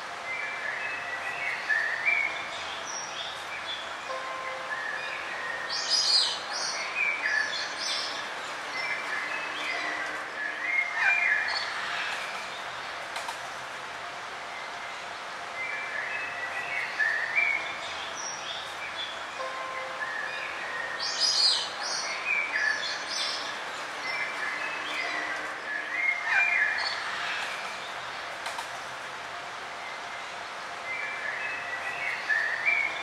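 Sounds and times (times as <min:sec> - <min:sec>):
songbirds chirping and warbling: 0:00.0 - 0:33.0
steady background hiss: 0:00.0 - 0:33.0.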